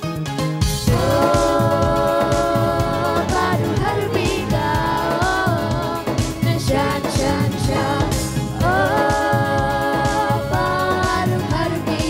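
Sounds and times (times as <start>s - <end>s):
music with a steady beat: 0.0s - 12.0s
girls singing into microphones: 0.9s - 12.0s.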